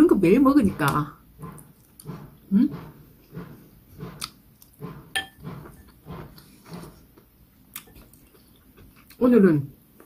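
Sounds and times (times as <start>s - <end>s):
person chewing: 0.8s - 9.2s.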